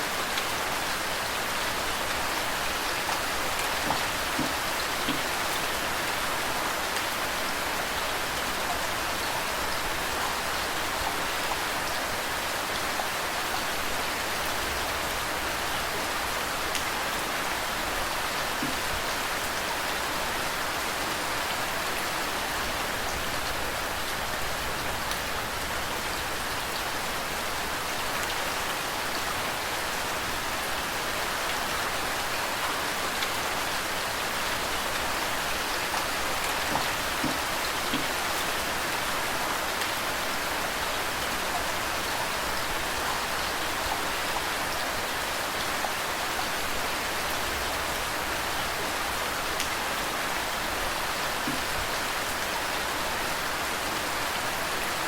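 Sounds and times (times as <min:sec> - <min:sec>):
running water: 0:00.0 - 0:28.2, 0:31.0 - 0:54.9
steady rain hiss: 0:00.0 - 0:55.0.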